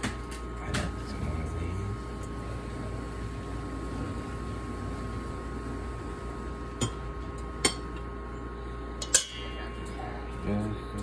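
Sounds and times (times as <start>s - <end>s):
appliance hum: 0.0s - 11.0s.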